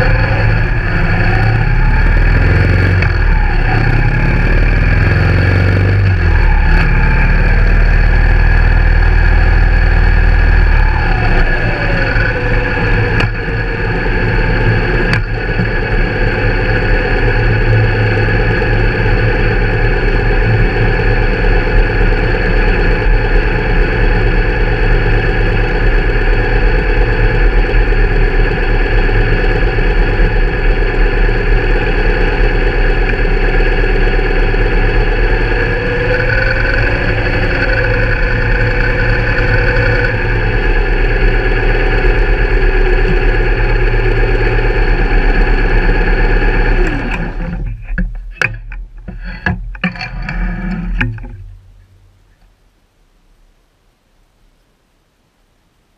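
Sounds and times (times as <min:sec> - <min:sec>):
motorcycle engine running: 0:00.0 - 0:52.3.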